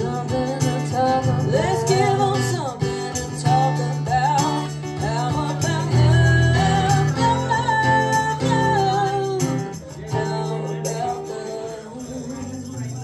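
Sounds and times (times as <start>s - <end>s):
person singing: 0.0s - 13.0s
strummed guitar: 0.0s - 13.0s.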